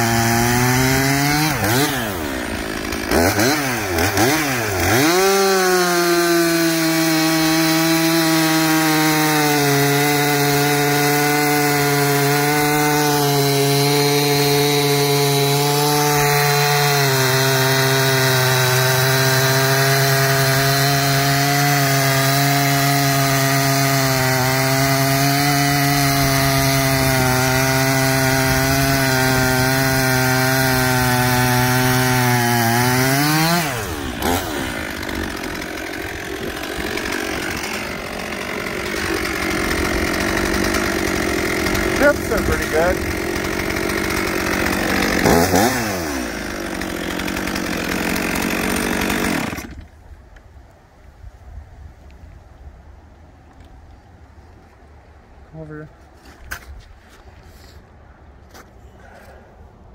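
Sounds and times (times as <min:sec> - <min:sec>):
chainsaw cutting log: 0:00.0 - 0:50.0.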